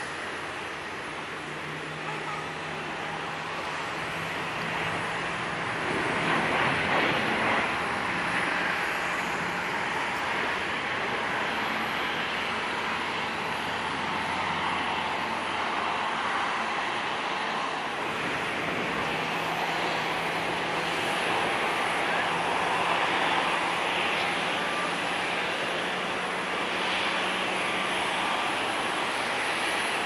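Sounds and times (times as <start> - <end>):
jet engine rush: 0.0 - 30.0.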